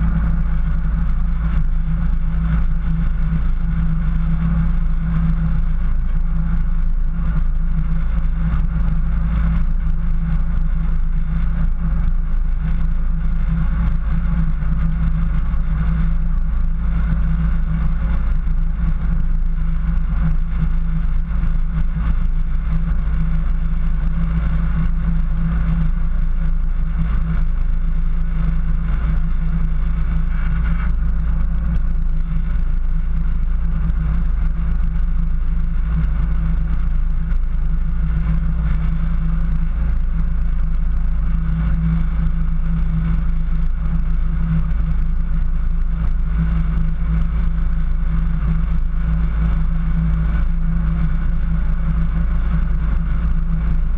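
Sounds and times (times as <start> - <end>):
vehicle engine running steadily: 0.0 - 53.9.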